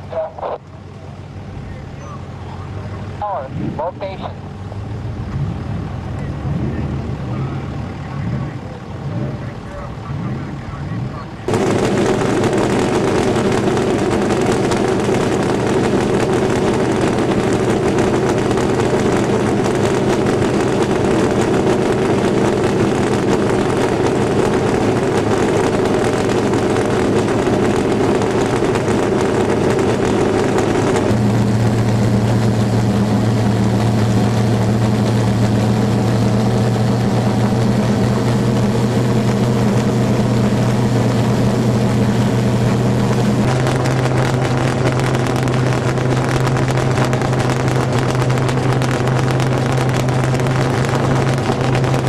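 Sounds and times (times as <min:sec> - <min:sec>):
race car engine idling: 0:00.0 - 0:52.0.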